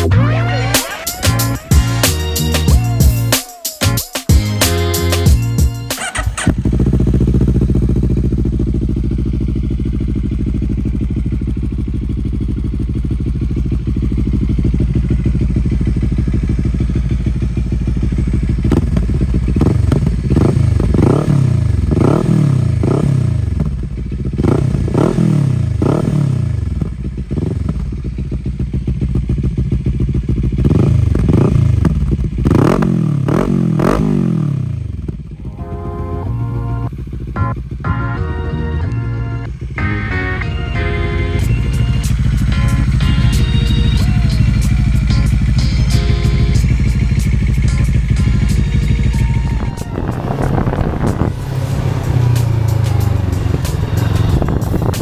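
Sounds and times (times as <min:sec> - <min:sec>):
motorcycle engine idling: 0:00.3 - 0:55.0
motorcycle throttle blips: 0:05.4 - 0:55.0.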